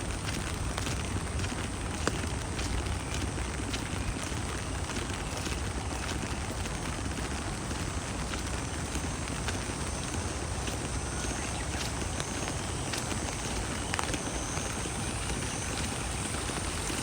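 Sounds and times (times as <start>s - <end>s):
rain drops ticking: 0.0s - 17.0s
steady rain falling: 0.0s - 17.0s.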